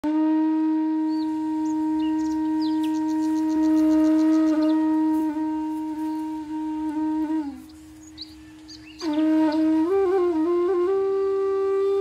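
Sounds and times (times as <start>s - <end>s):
flute-like long steady note: 0.0s - 12.0s.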